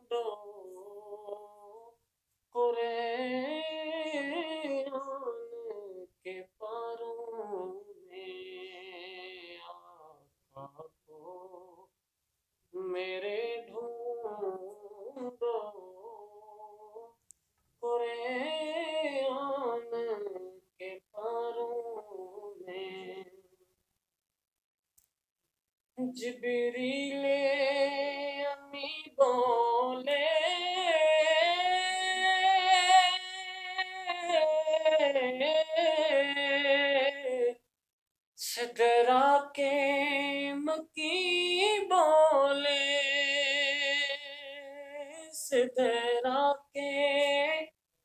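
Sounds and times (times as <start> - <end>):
person singing unaccompanied: 0.0 - 12.0, 12.7 - 23.7, 26.0 - 37.7, 38.4 - 47.8.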